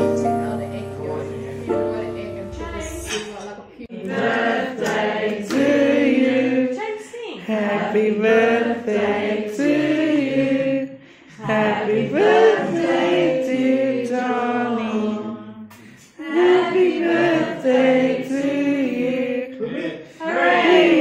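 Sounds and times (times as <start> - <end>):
group of people singing: 2.5 - 21.0.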